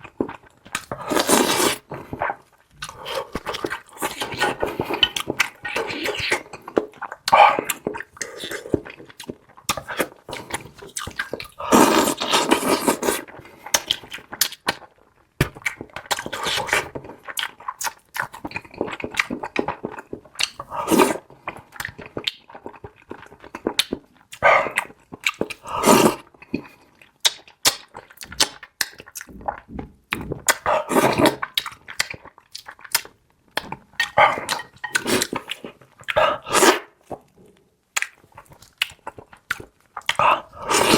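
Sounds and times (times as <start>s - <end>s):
person eating noisily: 0.2s - 14.8s, 15.6s - 37.0s, 38.0s - 40.9s.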